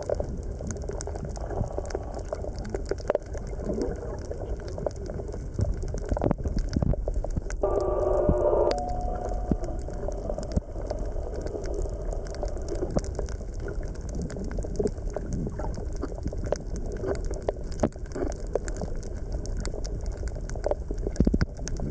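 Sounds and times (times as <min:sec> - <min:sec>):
sharp clicks and crackles: 0:00.0 - 0:21.9
underwater rumble of moving water: 0:00.0 - 0:21.9.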